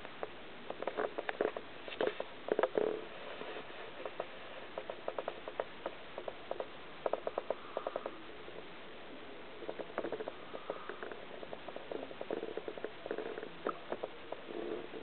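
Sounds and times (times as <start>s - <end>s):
small irregular clicks and taps: 0.0s - 2.9s, 4.0s - 8.2s, 9.6s - 15.0s
faint steady hiss: 0.0s - 15.0s.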